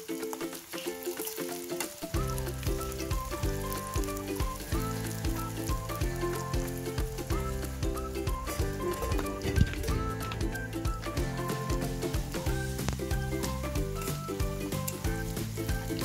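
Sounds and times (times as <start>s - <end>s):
food sizzling in hot oil: 0.0s - 16.0s
background music with bass: 2.1s - 16.0s.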